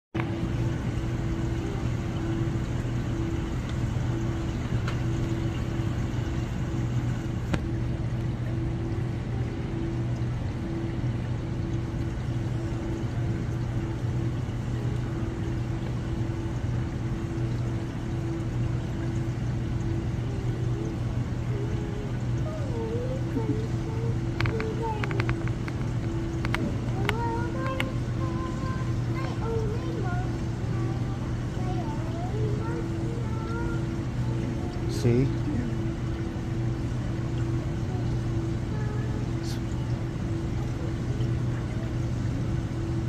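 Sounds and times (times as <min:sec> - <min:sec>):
aquarium pumps humming: 0:00.2 - 0:43.0.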